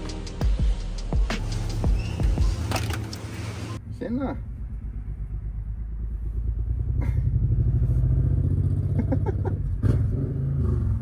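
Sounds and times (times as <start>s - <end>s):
vehicle engine rumbling: 0.7s - 11.0s.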